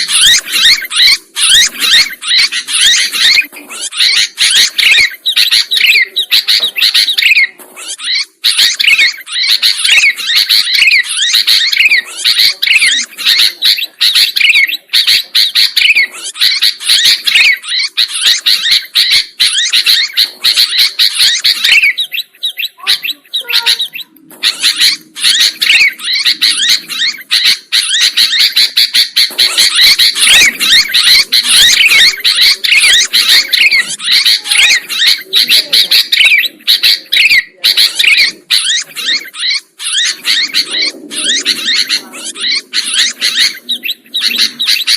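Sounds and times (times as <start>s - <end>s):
bird chattering chirps: 0.0s - 44.9s.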